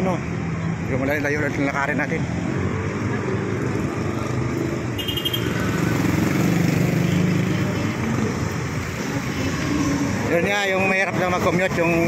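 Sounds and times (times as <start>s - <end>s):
street traffic: 0.0s - 12.0s
vehicle engine running nearby: 0.0s - 12.0s.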